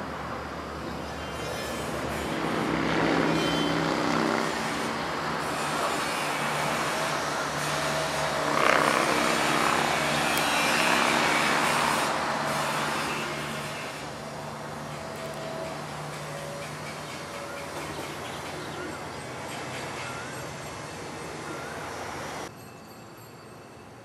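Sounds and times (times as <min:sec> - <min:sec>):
engine drone: 0:00.0 - 0:22.5.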